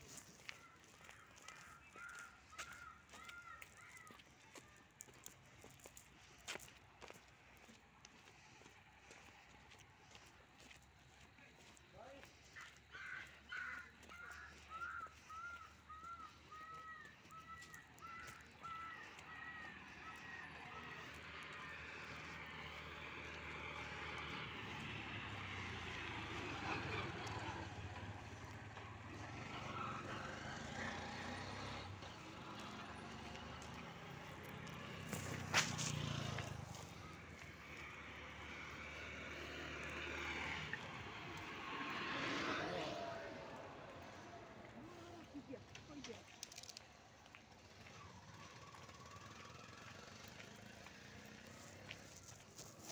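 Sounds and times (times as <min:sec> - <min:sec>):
distant traffic: 0:00.0 - 0:52.9.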